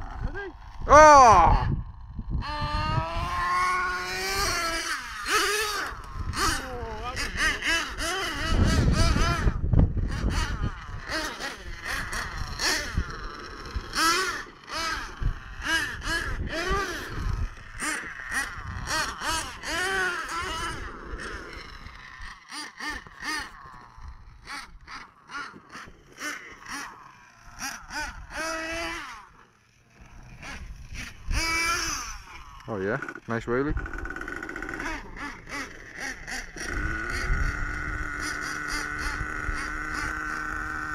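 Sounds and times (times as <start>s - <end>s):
small nitro engines revving: 0.0s - 40.9s.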